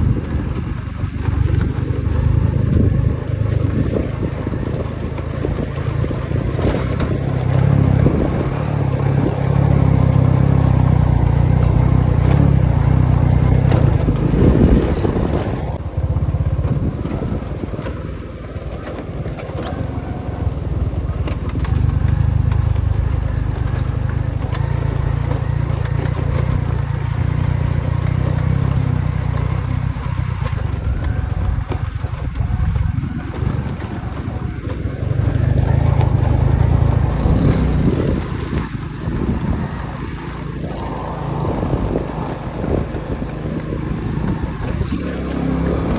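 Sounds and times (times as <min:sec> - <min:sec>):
motorcycle engine running: 0:00.0 - 0:45.9
wind rumbling on microphone: 0:00.0 - 0:45.9.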